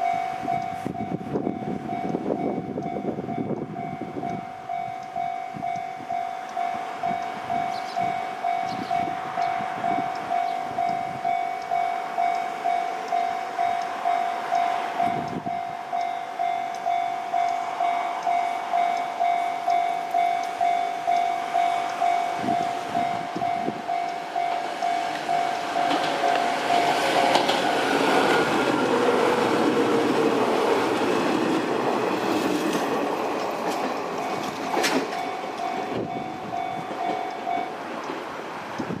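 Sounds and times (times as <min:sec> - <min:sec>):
level-crossing warning bell: 0:00.0 - 0:38.2
electric train passing: 0:00.0 - 0:39.0
train whine falling in pitch: 0:04.8 - 0:37.8.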